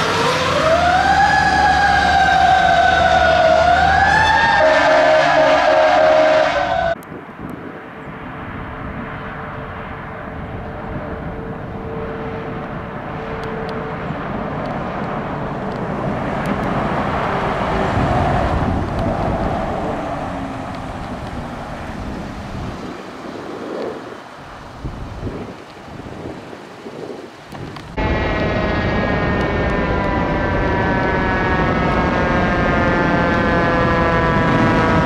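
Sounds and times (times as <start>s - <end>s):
ambulance driving past: 0.0s - 7.0s, 7.8s - 22.6s, 28.0s - 35.0s.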